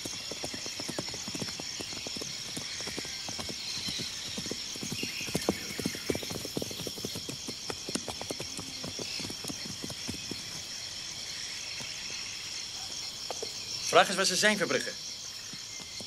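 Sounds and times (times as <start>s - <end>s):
horse hooves clip-clopping: 0.0s - 13.7s, 15.3s - 16.0s.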